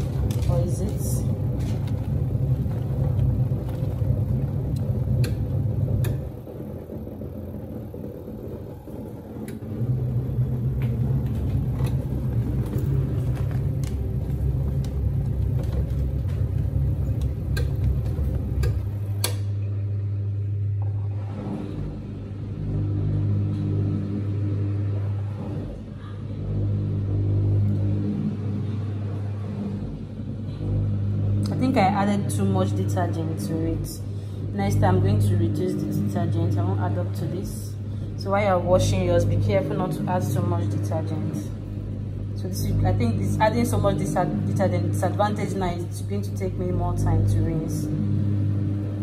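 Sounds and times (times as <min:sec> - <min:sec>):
washing machine motor humming: 0:00.0 - 0:49.0.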